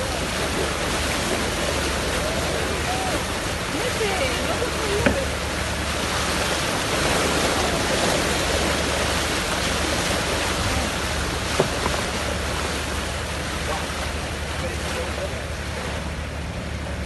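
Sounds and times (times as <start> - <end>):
boat engine hum: 0.0 - 17.0
water rushing along boat hull: 0.0 - 17.0.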